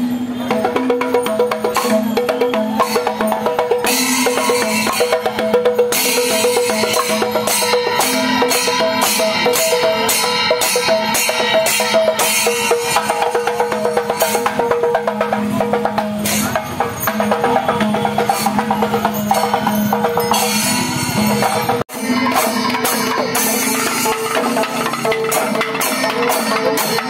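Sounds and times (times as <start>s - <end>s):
hand cymbals clashing: 0.0s - 27.0s.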